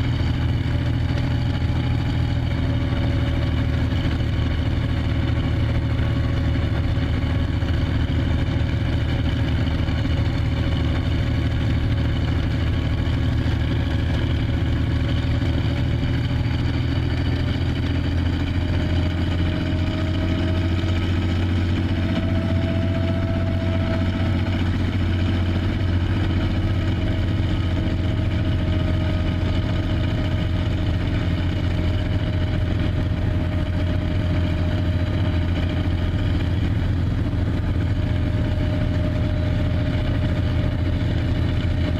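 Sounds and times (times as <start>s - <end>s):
tank engine idling: 0.0s - 41.9s.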